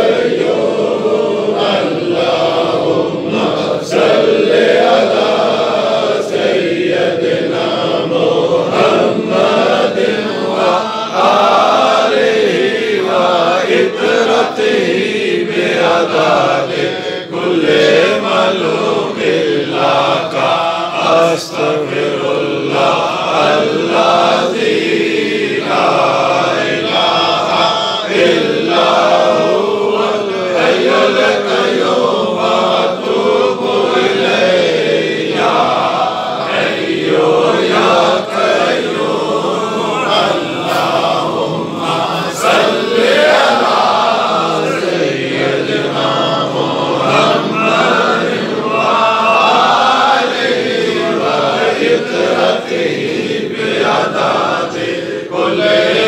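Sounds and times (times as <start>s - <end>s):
men chanting together: 0.0s - 56.0s.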